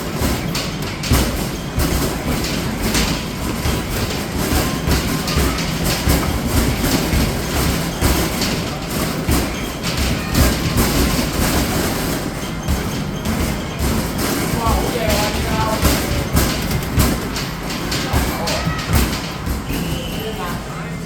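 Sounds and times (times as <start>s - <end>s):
basketballs thumping and rattling: 0.0s - 20.7s.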